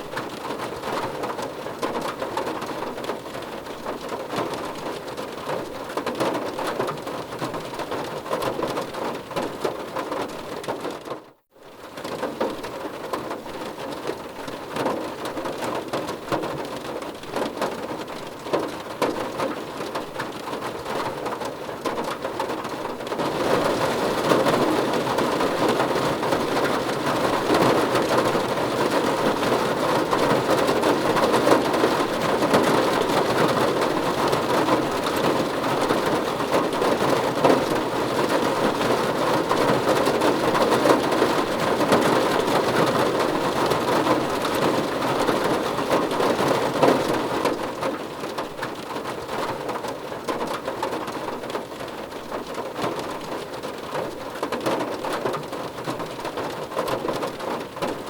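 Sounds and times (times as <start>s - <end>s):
rain on a car roof: 0.0s - 58.0s.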